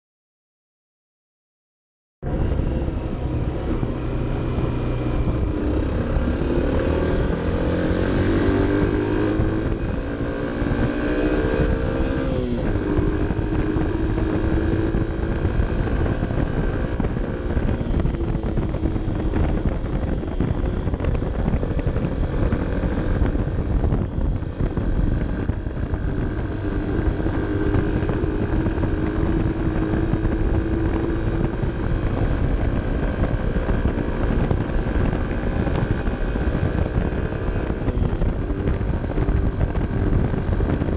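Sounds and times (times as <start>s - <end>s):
motorcycle engine pulling uphill: 2.2s - 40.9s
wind noise on microphone: 2.2s - 40.9s.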